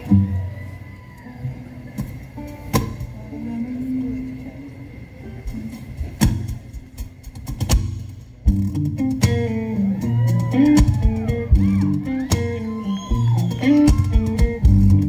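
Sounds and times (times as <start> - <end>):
acoustic folk band playing: 0.0 - 15.0.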